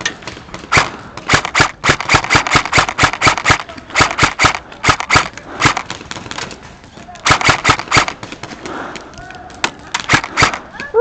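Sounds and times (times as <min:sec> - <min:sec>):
airsoft guns firing: 0:00.0 - 0:11.0.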